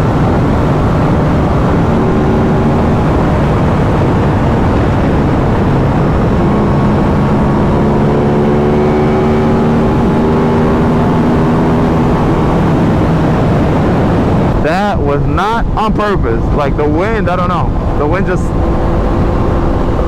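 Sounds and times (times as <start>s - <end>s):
motorcycle engine cruising: 0.0s - 20.0s
wind rush on microphone: 0.0s - 20.0s.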